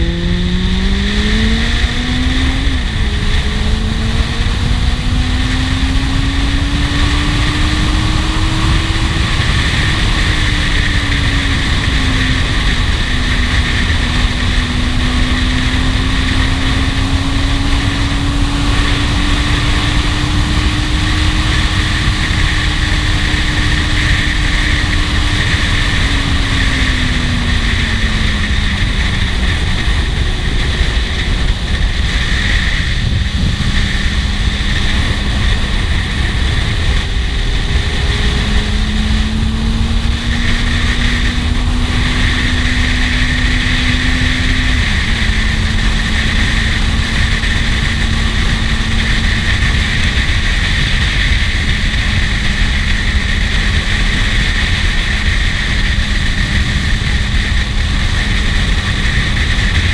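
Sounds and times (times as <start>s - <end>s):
motorcycle engine running: 0.0s - 59.9s
wind rush over microphone: 0.0s - 59.9s.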